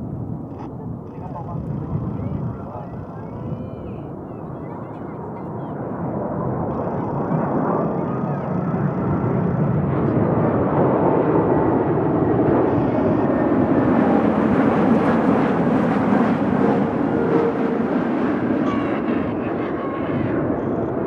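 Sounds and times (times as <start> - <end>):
jet engines roaring: 0.1 - 21.0.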